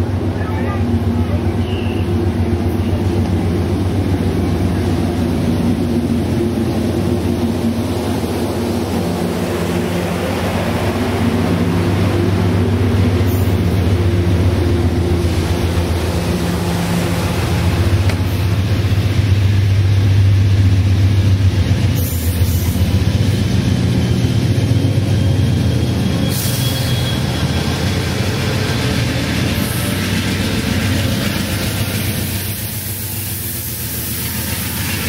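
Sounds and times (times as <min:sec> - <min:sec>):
low diesel engine drone: 0:00.0 - 0:35.0
train wheels on rails: 0:00.0 - 0:35.0.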